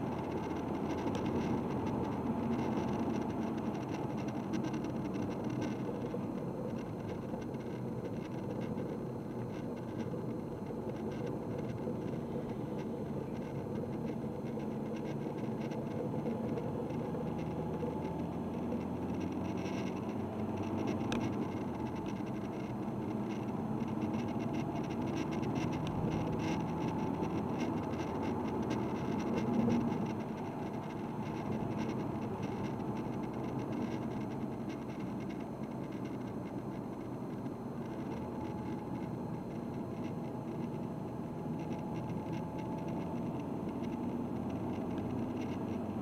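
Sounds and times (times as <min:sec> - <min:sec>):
diesel car engine running: 0:00.0 - 0:46.0.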